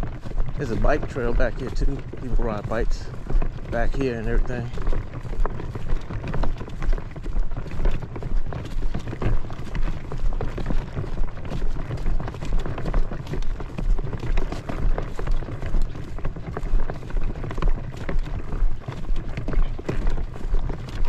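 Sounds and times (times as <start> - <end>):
footsteps on sandy trail: 0.0 - 21.0.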